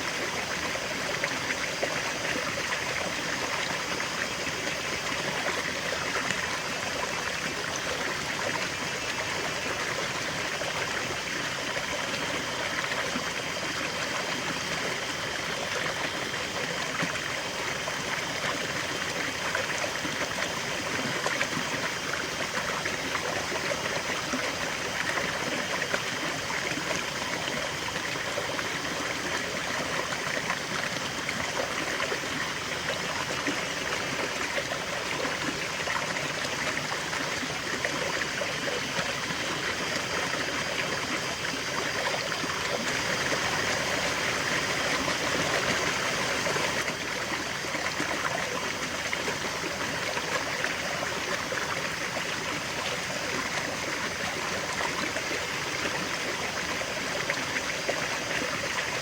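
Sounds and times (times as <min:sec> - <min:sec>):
river water rushing and babbling: 0:00.0 - 0:59.0.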